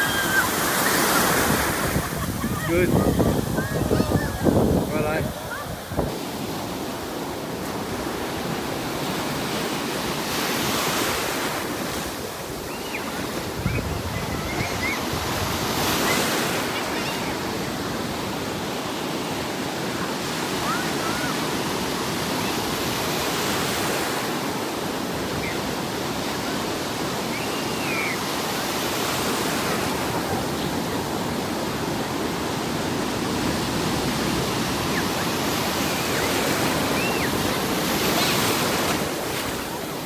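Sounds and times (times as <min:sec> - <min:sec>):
ocean surf breaking: 0:00.0 - 0:40.0.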